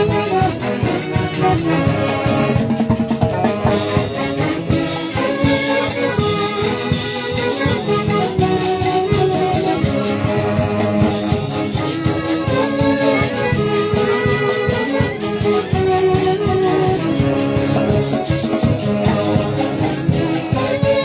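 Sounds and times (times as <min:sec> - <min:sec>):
dance orchestra with saxophone: 0:00.0 - 0:21.0.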